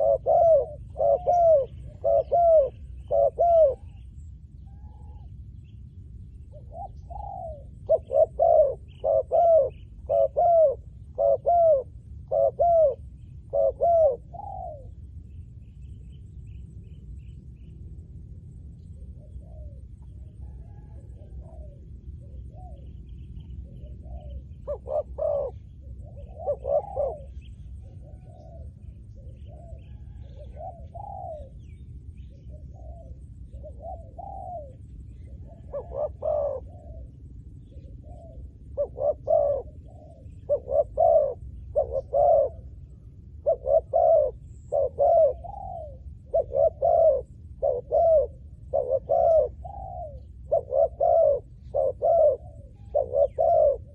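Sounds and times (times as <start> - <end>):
dove cooing: 0.0 - 5.3, 6.5 - 15.1, 18.9 - 53.9
steady low rumble: 0.0 - 53.9.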